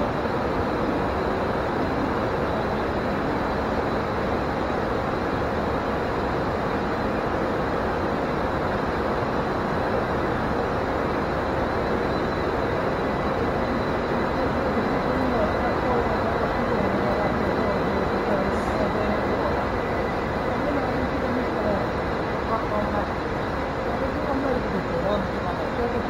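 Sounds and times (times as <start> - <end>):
faint steady tones: 0.0 - 26.0.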